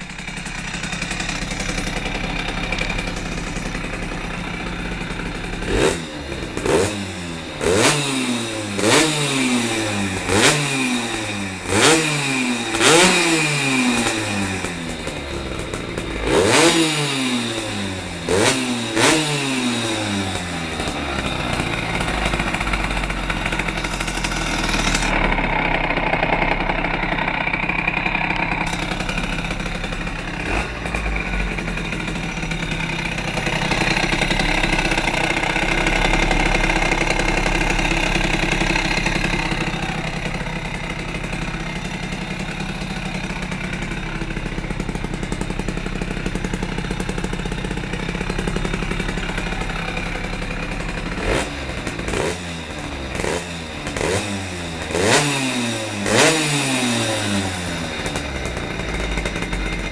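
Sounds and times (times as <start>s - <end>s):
moped engine idling and revving: 0.0s - 59.9s.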